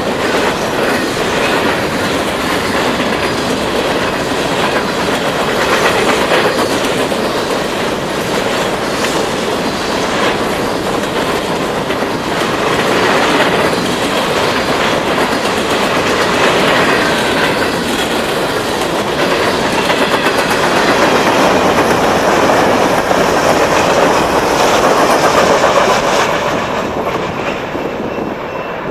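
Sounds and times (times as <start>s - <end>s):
train wheels clattering over joints: 0.0s - 28.9s.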